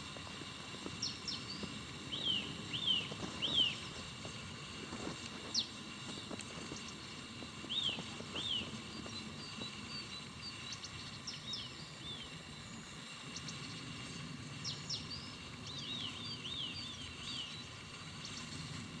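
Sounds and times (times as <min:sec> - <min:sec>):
songbirds chirping: 0:00.1 - 0:18.9.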